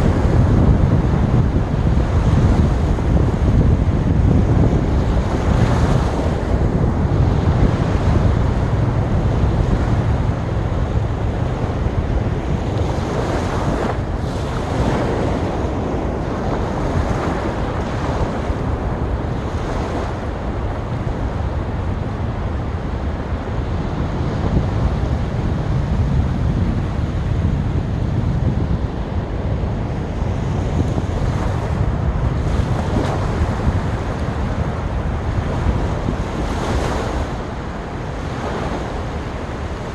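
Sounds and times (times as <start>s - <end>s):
low wind rumble on microphone: 0.0s - 39.9s
sea waves breaking on beach: 0.0s - 39.9s.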